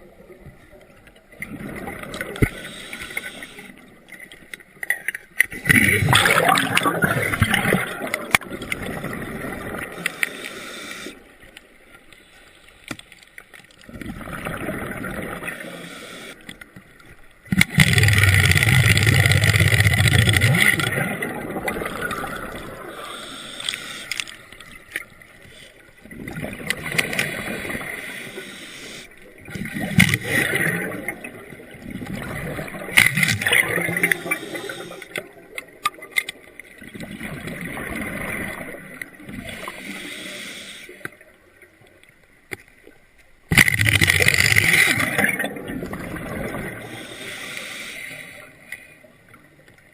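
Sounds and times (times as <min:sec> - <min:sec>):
underwater air bubbling: 0:00.0 - 0:04.8, 0:05.5 - 0:12.8, 0:13.7 - 0:42.0, 0:42.8 - 0:49.9.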